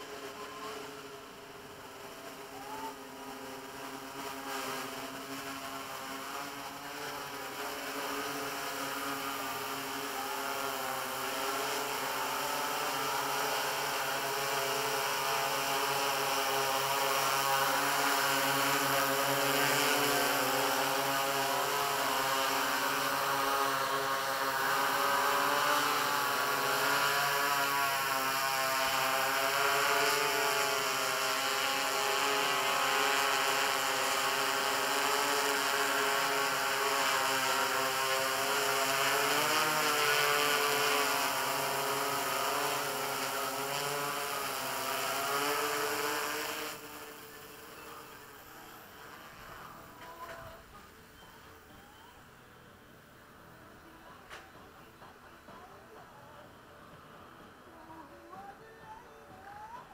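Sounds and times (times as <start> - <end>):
drone propellers whining: 0.0 - 52.3.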